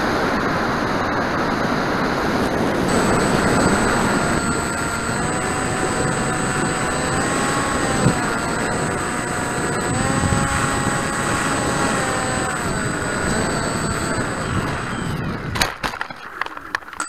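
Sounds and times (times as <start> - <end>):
high-pitched whine: 0.0 - 15.8
propeller motor running: 0.0 - 16.5
wind noise: 0.0 - 17.0.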